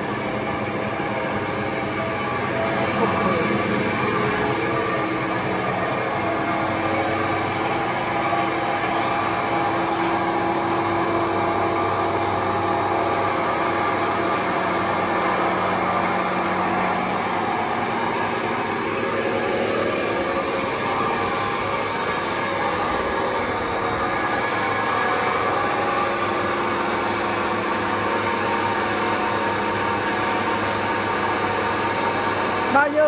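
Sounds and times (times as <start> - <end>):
rotor whirring with high whine: 0.0 - 33.0.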